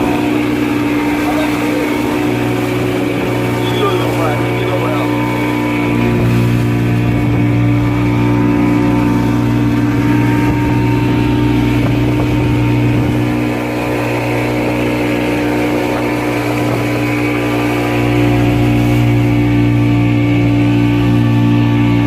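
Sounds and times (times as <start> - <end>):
motor boat engine humming: 0.0 - 22.0.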